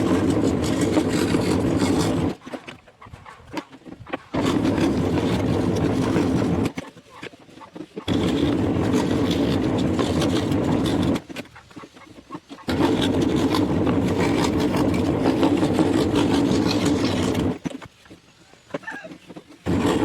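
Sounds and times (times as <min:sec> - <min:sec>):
scroll saw cutting wood: 0:00.0 - 0:20.0.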